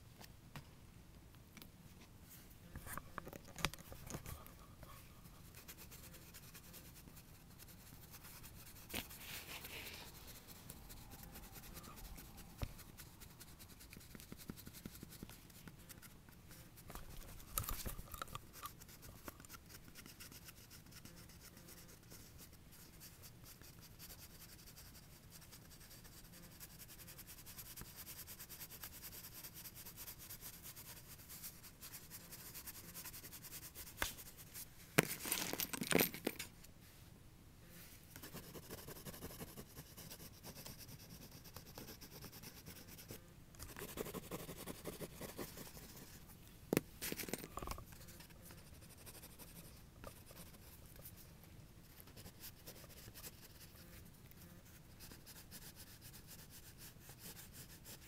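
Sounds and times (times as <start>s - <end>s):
pastel scratching on paper: 3.8s - 34.7s, 38.2s - 46.3s, 47.0s - 58.0s.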